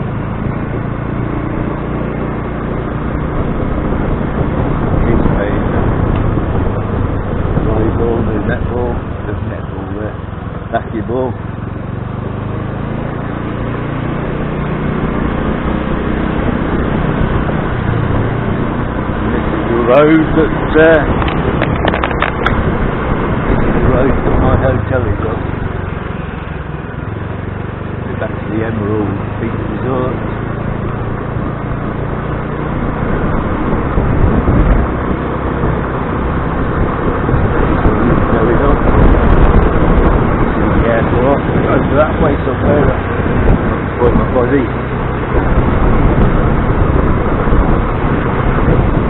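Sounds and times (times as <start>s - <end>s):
steady noisy rush: 0.0s - 11.9s, 12.8s - 49.0s
motor scooter engine running: 0.0s - 49.0s
rumbling road noise: 0.0s - 49.0s.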